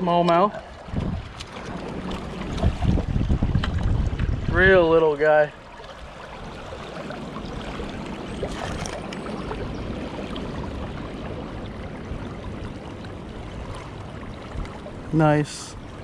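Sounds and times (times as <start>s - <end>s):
river water rushing: 0.0s - 4.0s, 5.1s - 16.0s.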